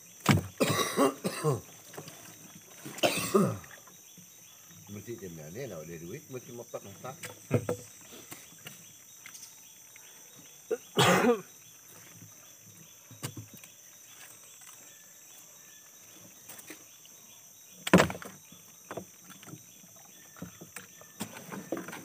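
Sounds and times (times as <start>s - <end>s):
high drone of insects: 0.0s - 22.0s.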